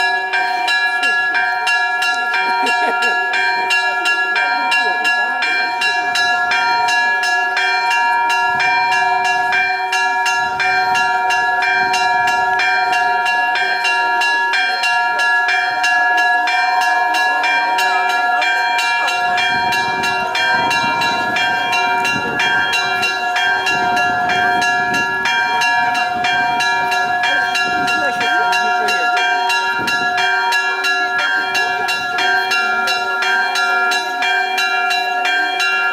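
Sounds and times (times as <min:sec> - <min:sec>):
church bells ringing rapid peal: 0:00.0 - 0:35.9.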